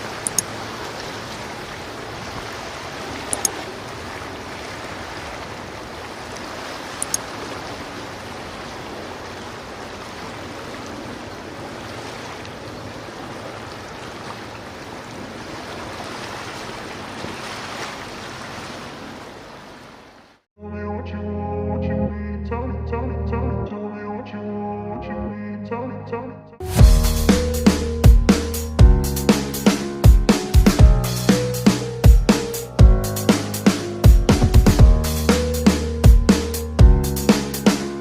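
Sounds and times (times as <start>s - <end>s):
rushing water: 0.0s - 20.5s, 26.6s - 38.0s.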